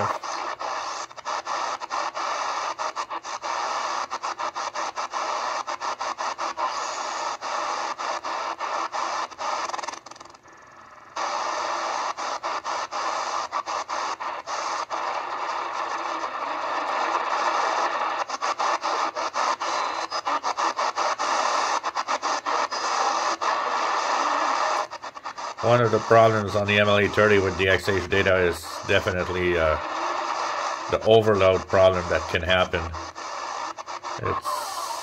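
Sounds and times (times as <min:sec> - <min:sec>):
shortwave radio static: 0:00.0 - 0:35.0.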